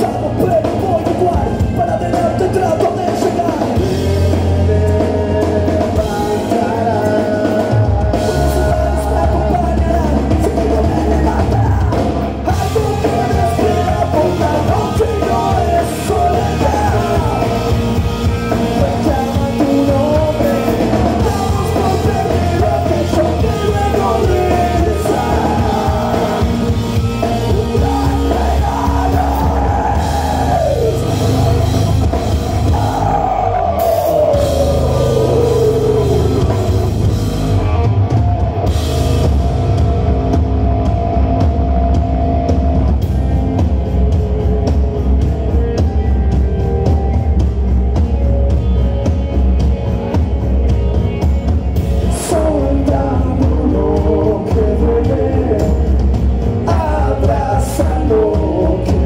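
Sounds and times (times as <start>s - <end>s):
bass guitar: 0.0s - 59.0s
drum kit: 0.0s - 59.0s
electric guitar: 0.0s - 59.0s
rock vocals: 0.0s - 59.0s.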